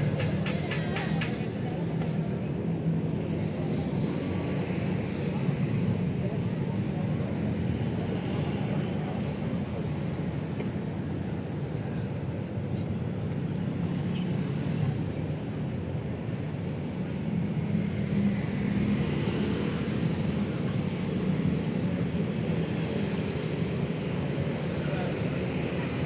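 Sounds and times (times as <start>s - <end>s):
city street traffic rumble: 0.0s - 26.0s.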